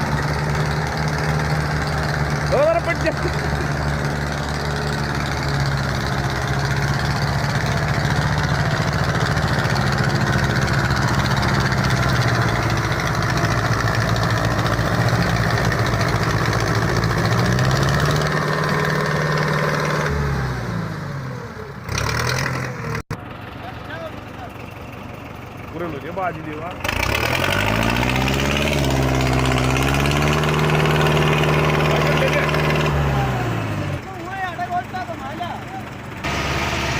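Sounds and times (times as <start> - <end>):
tractor diesel engine revving: 0.0 - 36.9.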